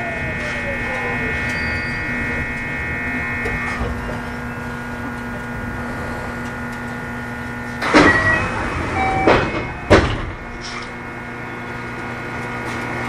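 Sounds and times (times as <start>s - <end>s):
electric train inverter hum: 0.0s - 13.0s
train running rumble: 0.0s - 13.0s.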